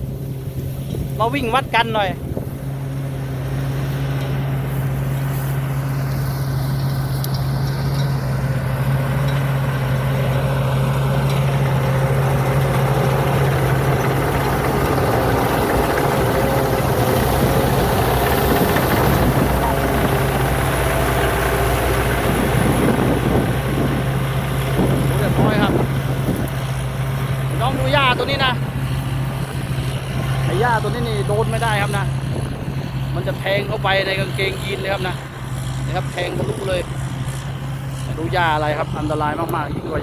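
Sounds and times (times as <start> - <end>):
combine harvester engine hum: 0.0 - 40.0.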